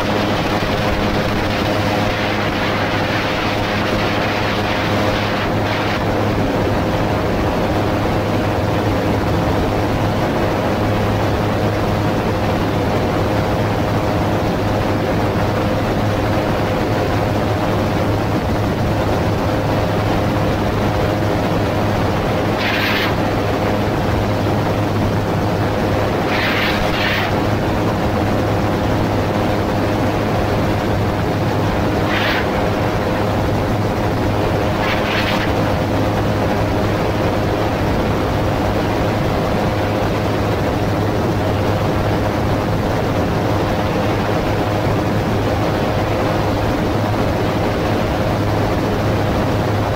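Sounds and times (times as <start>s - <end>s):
propeller engine drone: 0.0s - 49.9s
wind noise: 0.0s - 49.9s.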